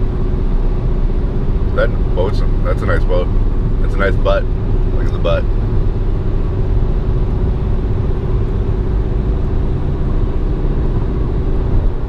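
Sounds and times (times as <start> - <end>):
low hum: 0.0 - 12.0
road and engine drone: 0.0 - 12.0.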